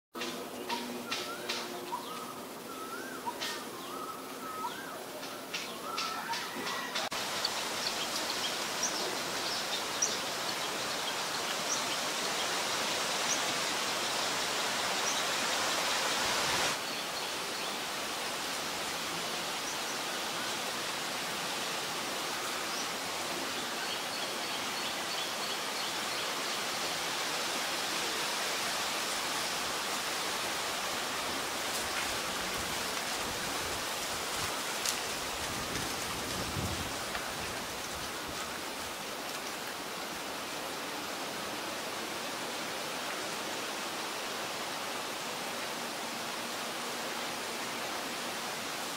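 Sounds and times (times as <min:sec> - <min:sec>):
outdoor background hiss: 0:00.2 - 0:48.9.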